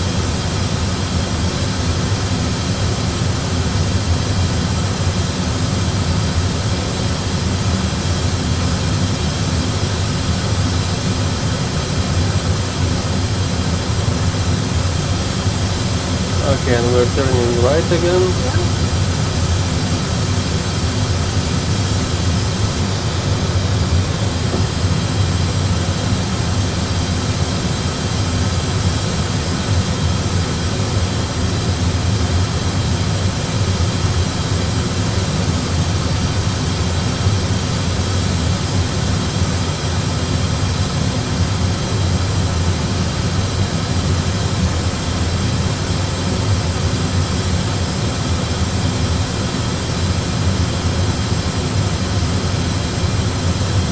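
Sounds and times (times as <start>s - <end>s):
aircraft cockpit rumble: 0.0s - 53.9s.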